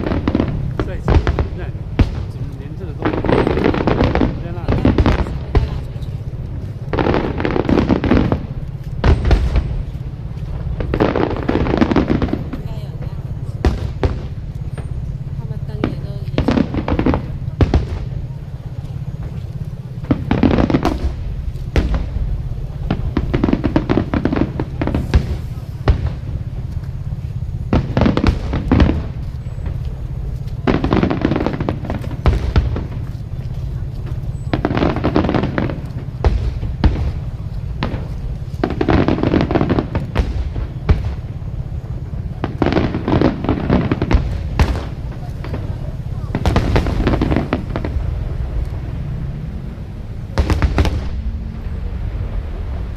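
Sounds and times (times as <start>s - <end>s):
fireworks bangs and crackling: 0.0s - 52.9s
low rumble: 0.0s - 52.9s.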